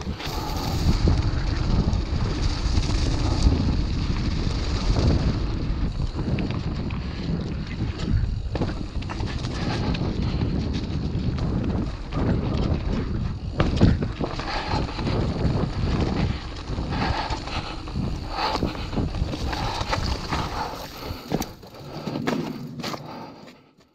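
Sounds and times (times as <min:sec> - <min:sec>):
wind buffeting microphone: 0:00.0 - 0:23.3.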